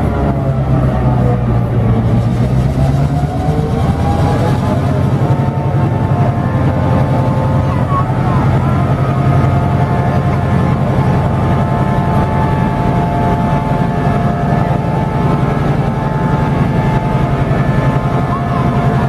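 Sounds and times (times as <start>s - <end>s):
diesel locomotive engine throbbing: 0.0s - 19.0s
steady engine whine: 0.0s - 19.0s.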